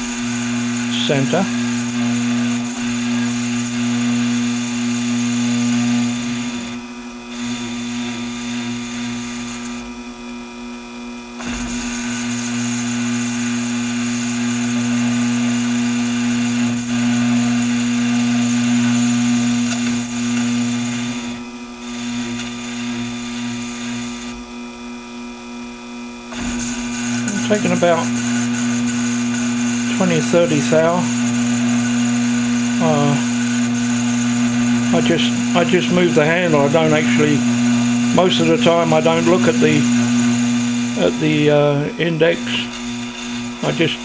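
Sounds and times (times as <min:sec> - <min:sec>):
high hiss of cutting tool: 0:00.0 - 0:09.8, 0:11.4 - 0:24.4, 0:26.3 - 0:44.0
lathe humming: 0:00.0 - 0:44.0.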